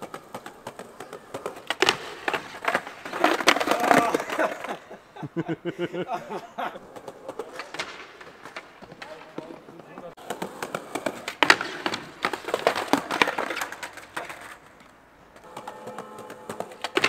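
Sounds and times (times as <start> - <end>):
skateboard clacking on stone and wood: 0.0 - 4.8, 6.8 - 17.0.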